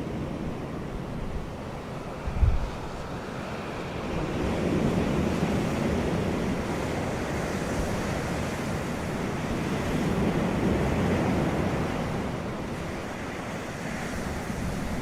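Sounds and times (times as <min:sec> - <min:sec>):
wind rushing across microphone: 0:00.0 - 0:15.0.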